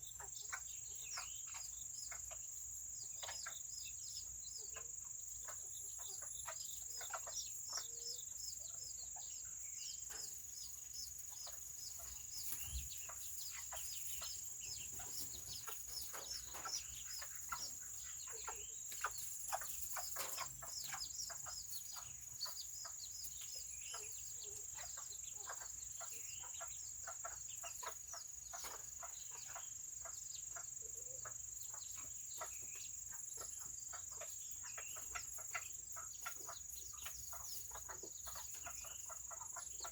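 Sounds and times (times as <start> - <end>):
chicken clucking: 0.0 - 39.9
chickens peeping: 0.0 - 39.9.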